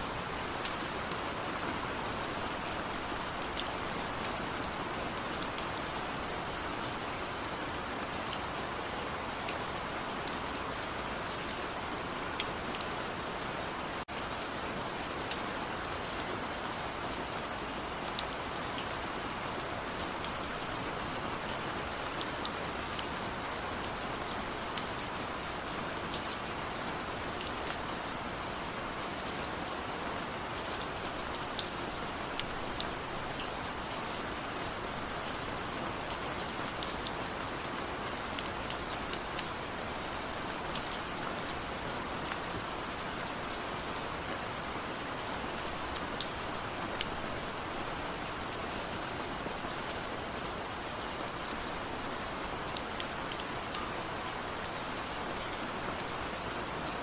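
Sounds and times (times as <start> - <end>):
rain drops ticking on surface: 0.0 - 57.0.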